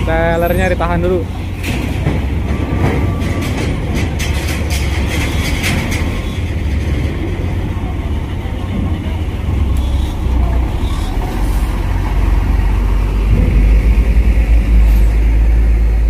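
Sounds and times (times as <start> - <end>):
heavy vehicles idling: 0.0 - 16.0.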